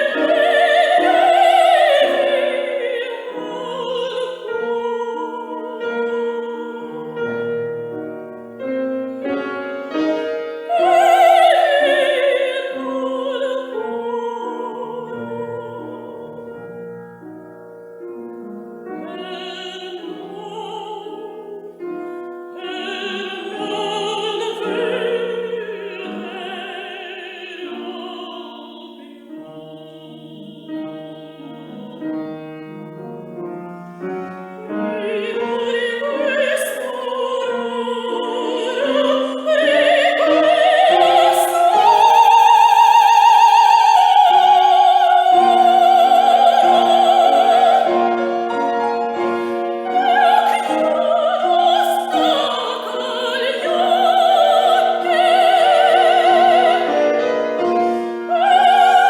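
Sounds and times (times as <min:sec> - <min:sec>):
piano accompaniment: 0:00.0 - 0:59.0
soprano singing opera: 0:00.0 - 0:59.0.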